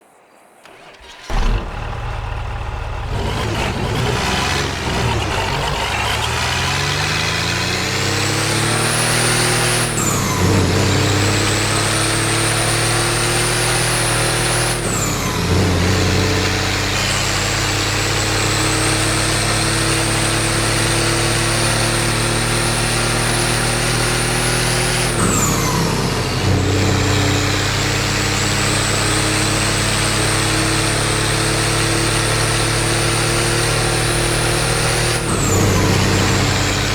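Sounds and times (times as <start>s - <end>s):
diesel engine starting and revving: 0.6s - 36.9s.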